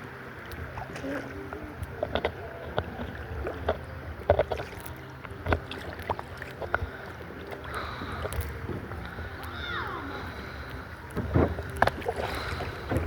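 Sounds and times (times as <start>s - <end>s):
water moving against a boat: 0.0s - 13.0s.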